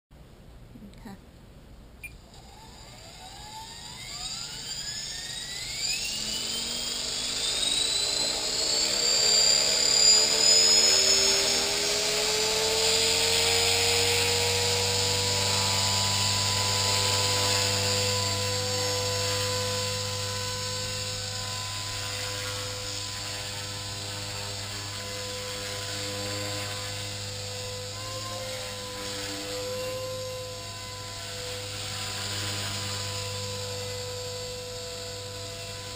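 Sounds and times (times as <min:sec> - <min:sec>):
low rotor hum: 0:02.1 - 0:35.9
electric motor whine: 0:02.2 - 0:35.9.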